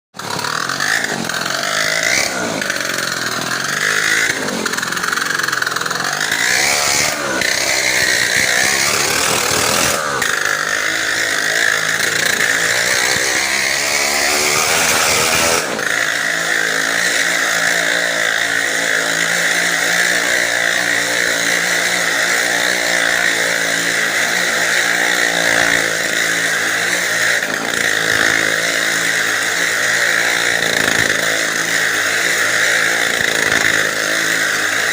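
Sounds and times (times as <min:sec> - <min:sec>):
motorcycle engines revving: 0:00.1 - 0:34.9.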